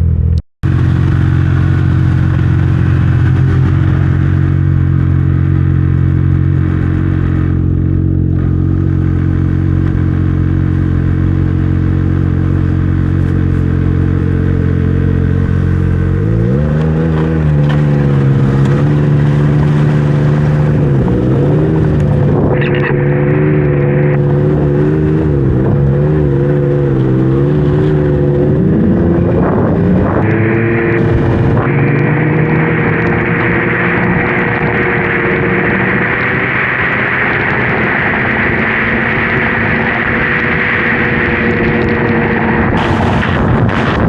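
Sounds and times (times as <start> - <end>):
snowmobile engine revving: 0.6 - 44.0.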